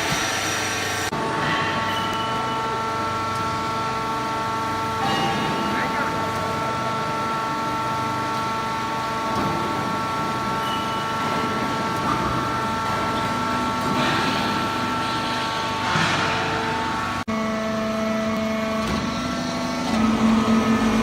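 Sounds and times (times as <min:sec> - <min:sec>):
baling machine whine: 0:00.3 - 0:21.0.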